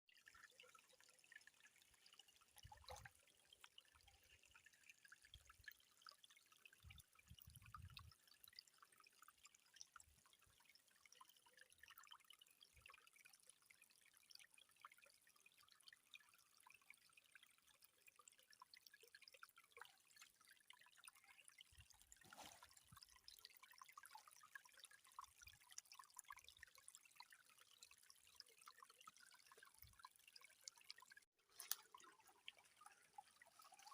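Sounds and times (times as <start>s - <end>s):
water trickling and dripping: 0.1s - 33.9s.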